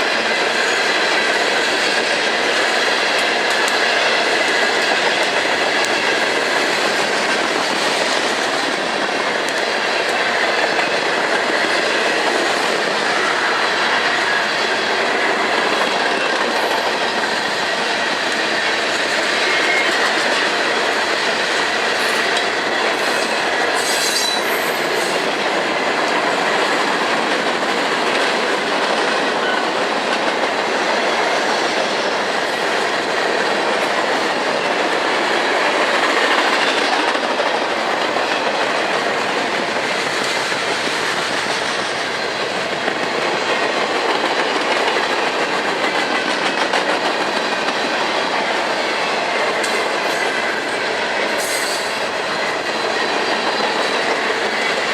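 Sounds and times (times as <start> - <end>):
train wheels clattering over rails: 0.0 - 54.9.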